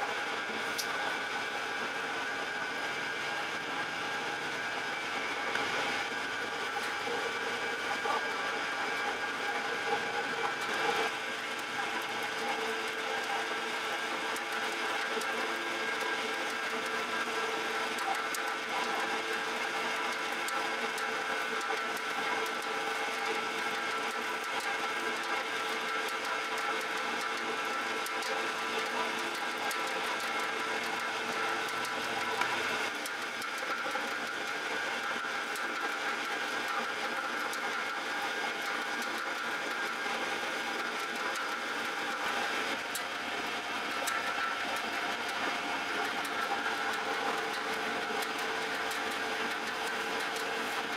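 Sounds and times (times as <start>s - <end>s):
dough mixer whirring: 0.0s - 50.9s.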